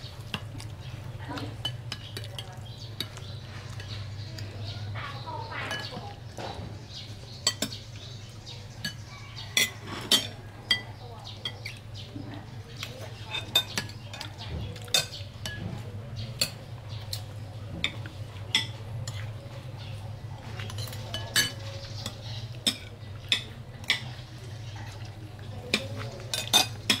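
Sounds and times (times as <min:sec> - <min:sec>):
spoons clinking on plates: 0:00.2 - 0:04.6, 0:05.5 - 0:11.9, 0:12.8 - 0:27.0.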